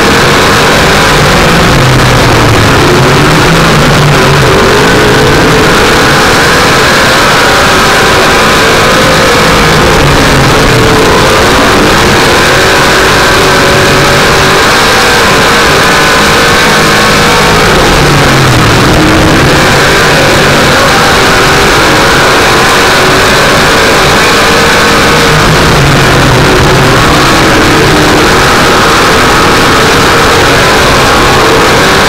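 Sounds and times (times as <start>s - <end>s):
race car engine at speed: 0.0s - 32.0s.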